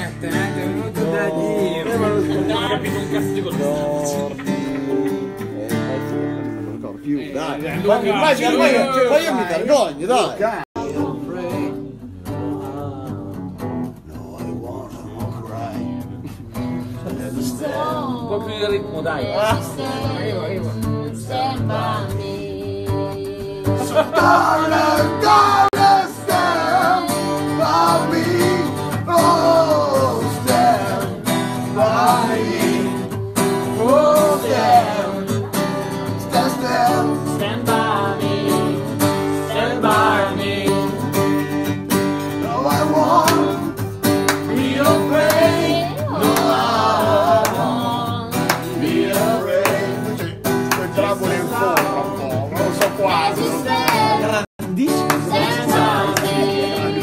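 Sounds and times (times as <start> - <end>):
men singing together: 0.0 - 6.5, 16.8 - 57.0
strummed acoustic guitar: 0.0 - 9.5, 10.8 - 57.0.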